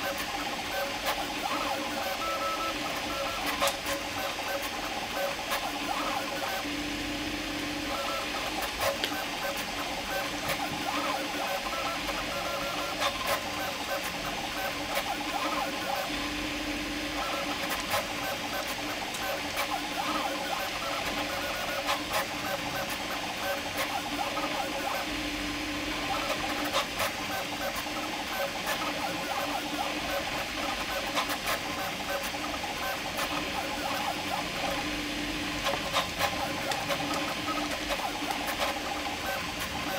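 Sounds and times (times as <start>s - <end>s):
printer stepper motors buzzing: 0.0s - 39.9s.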